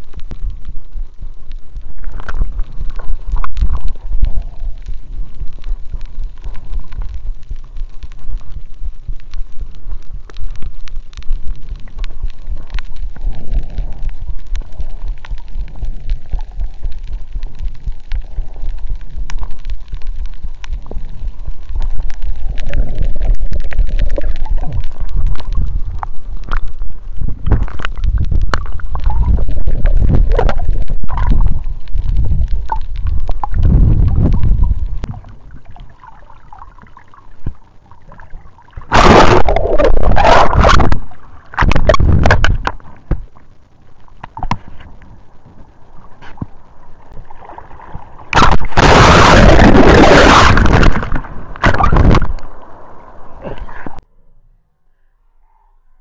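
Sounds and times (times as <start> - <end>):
sharp underwater clicks: 0.0 - 35.9, 38.7 - 43.4, 48.3 - 52.6
water bubbling and gurgling: 0.0 - 54.0
muffled underwater water rumble: 0.0 - 56.0.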